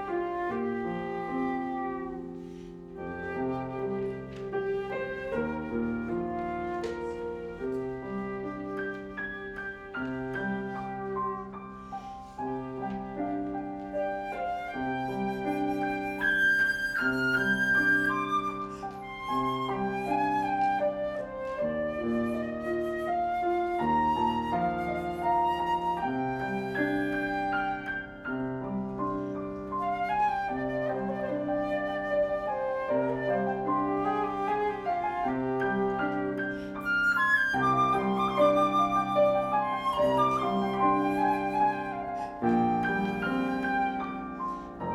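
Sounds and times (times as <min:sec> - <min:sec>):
flute melody: 0:00.0 - 0:44.9
piano playing low figure: 0:00.0 - 0:44.9.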